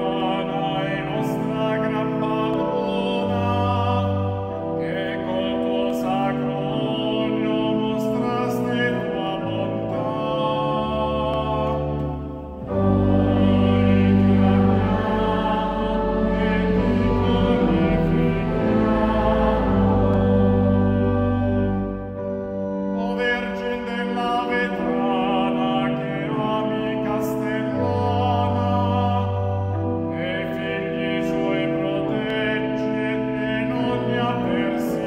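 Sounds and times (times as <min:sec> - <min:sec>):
pipe organ playing chords: 0:00.0 - 0:35.0.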